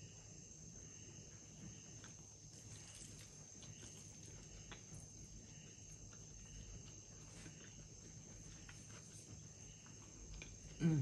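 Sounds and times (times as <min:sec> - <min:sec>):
steady high-pitched whine: 0:00.0 - 0:11.0
faint chewing: 0:01.6 - 0:11.0.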